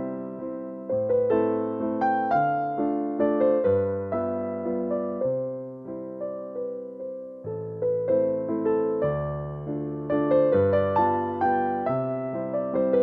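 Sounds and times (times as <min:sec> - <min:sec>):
soft piano melody: 0:00.0 - 0:13.0.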